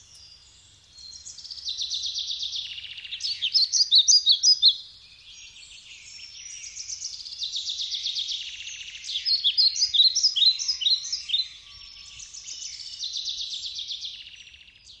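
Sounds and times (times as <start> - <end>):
songbirds singing trills: 0.0 - 15.0.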